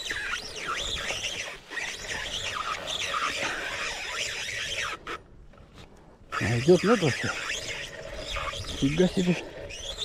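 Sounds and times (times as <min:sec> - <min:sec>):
fishing reel whining: 0:00.0 - 0:05.2, 0:06.3 - 0:10.0.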